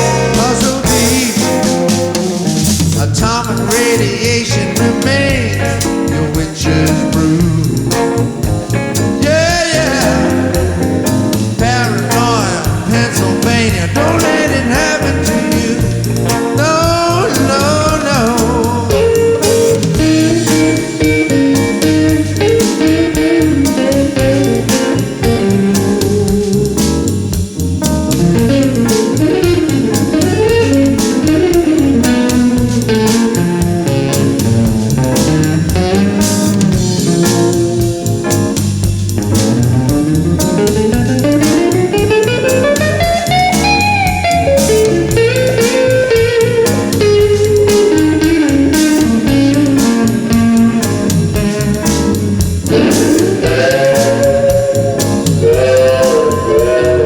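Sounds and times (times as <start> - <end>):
blues guitar music: 0.0 - 57.0.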